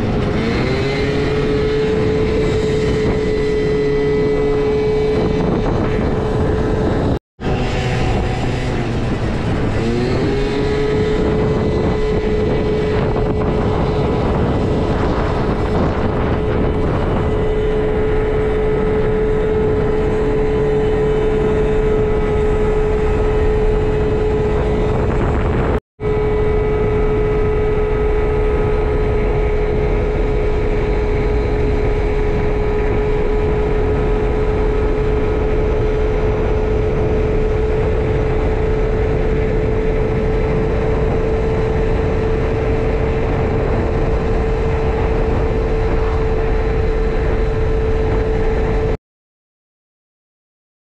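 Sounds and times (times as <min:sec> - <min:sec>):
heavy wind noise: 0:00.0 - 0:49.0
scooter engine high pitch: 0:00.0 - 0:49.0.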